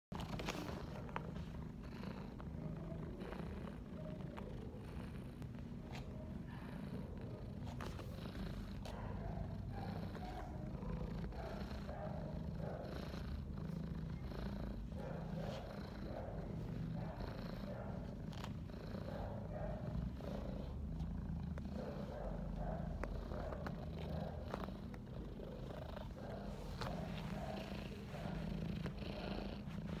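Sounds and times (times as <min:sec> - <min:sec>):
cat purring: 0:00.1 - 0:30.0.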